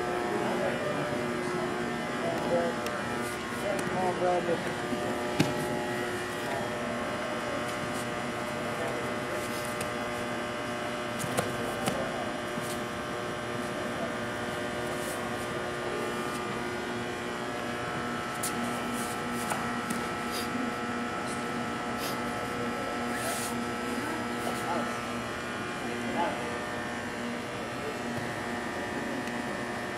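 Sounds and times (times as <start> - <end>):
electrical hum: 0.0 - 29.9.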